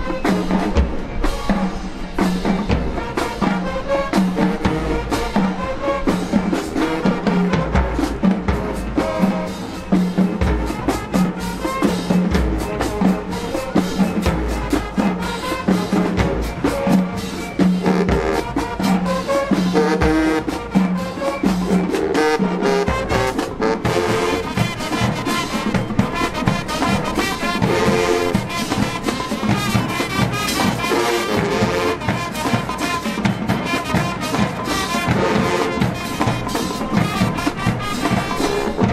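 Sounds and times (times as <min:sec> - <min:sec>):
marching drums: 0:00.0 - 0:38.9
trumpets and trombones: 0:00.0 - 0:38.9.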